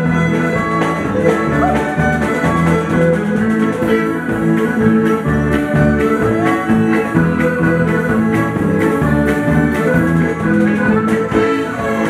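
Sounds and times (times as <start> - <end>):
fiddle with sliding notes: 0.0 - 12.0
guitar: 0.0 - 12.0
keyboard backing with steady beat: 0.0 - 12.0.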